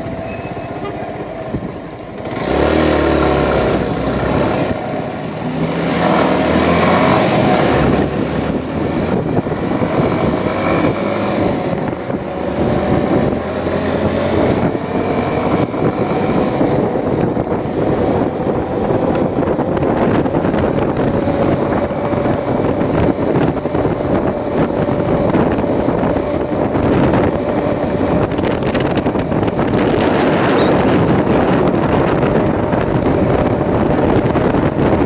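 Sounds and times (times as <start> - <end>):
motorcycle engine running: 0.0 - 35.0
wind rushing over microphone: 1.1 - 35.0.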